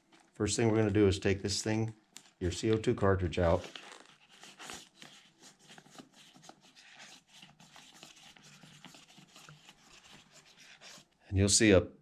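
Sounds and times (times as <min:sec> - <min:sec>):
rustling handling noise: 0:00.0 - 0:11.1.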